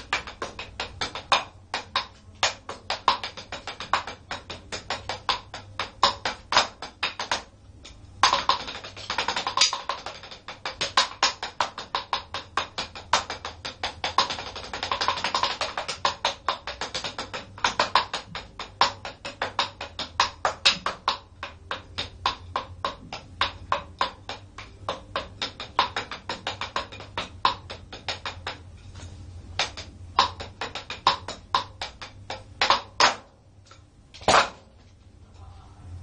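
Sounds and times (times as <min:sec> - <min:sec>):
drumsticks on practice pad: 0:00.0 - 0:35.0.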